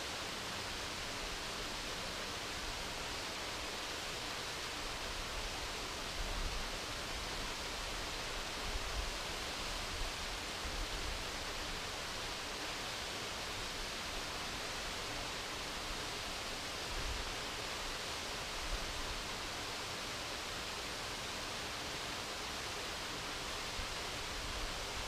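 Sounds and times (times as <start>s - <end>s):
waterfall rushing hiss: 0.0s - 25.0s.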